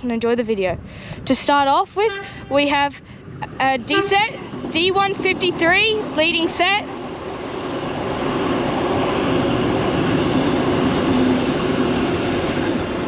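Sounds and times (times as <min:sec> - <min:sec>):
train wheels on rail: 0:00.8 - 0:13.0.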